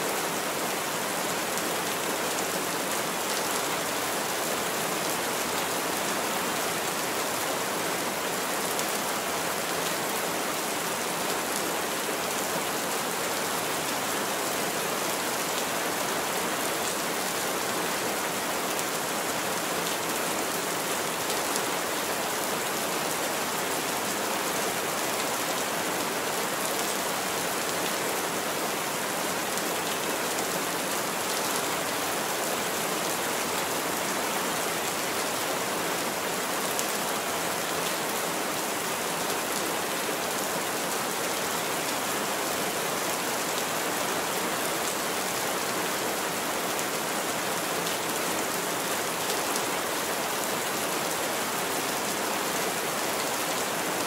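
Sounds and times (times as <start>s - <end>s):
heavy rain on a roof: 0.0s - 54.0s.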